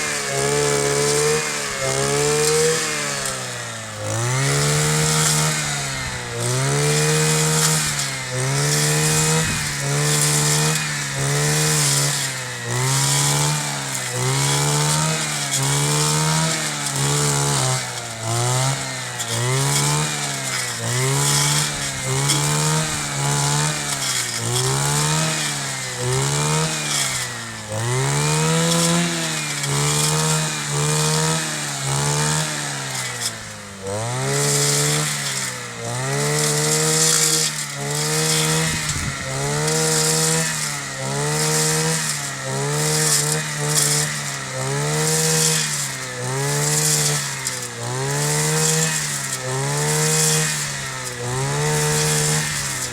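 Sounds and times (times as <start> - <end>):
brush cutter engine cutting grass: 0.0 - 52.9.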